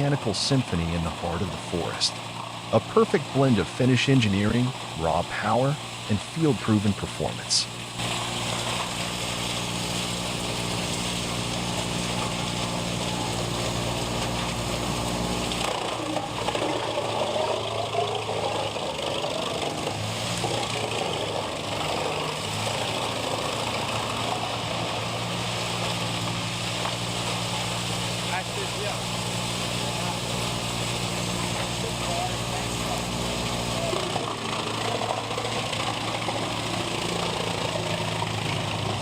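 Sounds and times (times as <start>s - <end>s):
heavy machinery engine hum: 0.0s - 39.0s.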